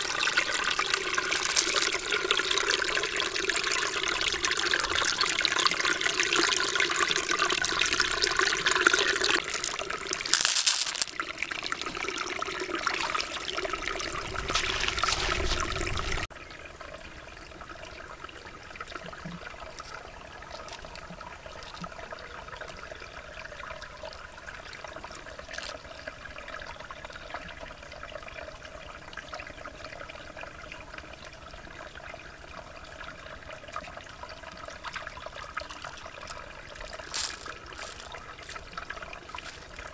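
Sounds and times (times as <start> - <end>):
stream water trickling over pebbles: 0.0 - 39.9.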